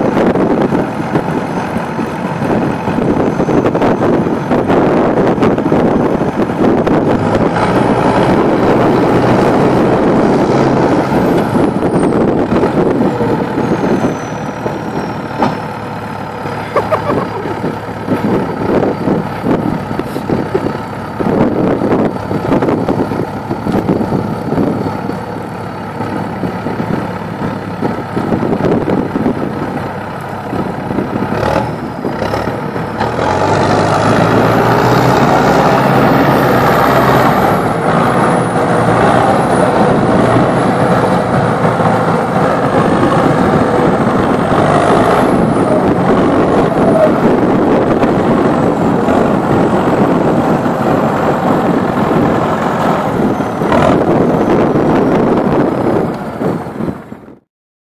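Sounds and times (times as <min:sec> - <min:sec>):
second tractor engine: 0:00.0 - 0:57.4
tractor diesel engine under load: 0:00.0 - 0:57.4.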